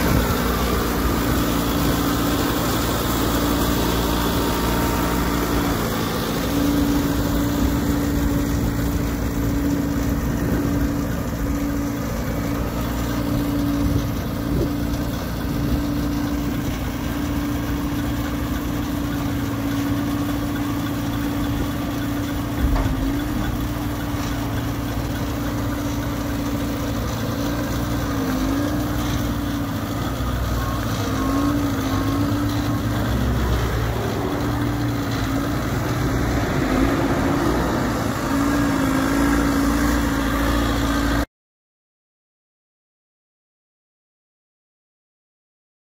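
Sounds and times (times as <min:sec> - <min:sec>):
street sweeper engine drone: 0:00.0 - 0:41.3.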